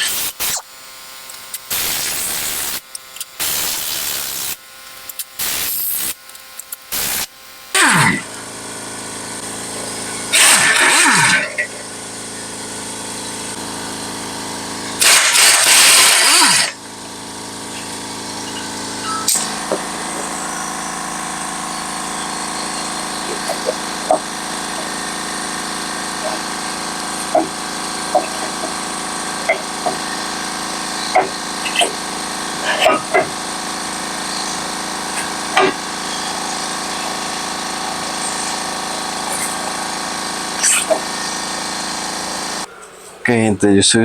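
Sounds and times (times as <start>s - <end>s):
impact wrench running: 0.0s - 42.8s.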